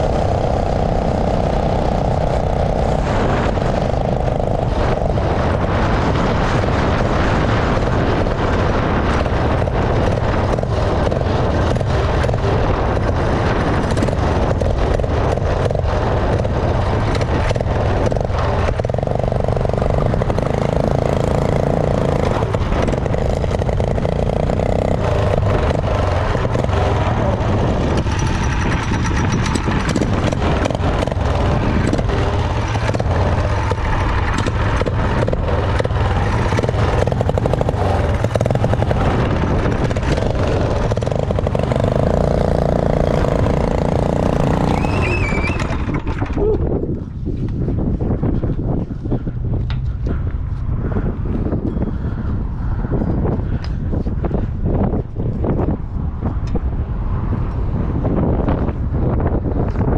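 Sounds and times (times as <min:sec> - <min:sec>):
small gas engine running: 0:00.0 - 0:51.0
wind rushing over microphone: 0:00.0 - 0:59.9.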